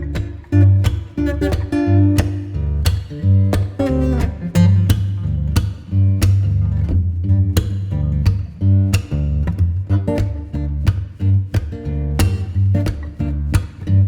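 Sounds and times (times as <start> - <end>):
acoustic guitar: 0.0 - 14.0
steady bass and beat: 0.0 - 14.0.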